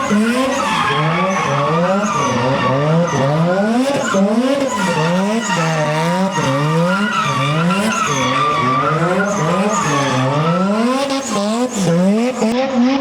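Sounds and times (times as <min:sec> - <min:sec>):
tyres squealing: 0:00.0 - 0:12.5
car engine revving: 0:00.0 - 0:13.0.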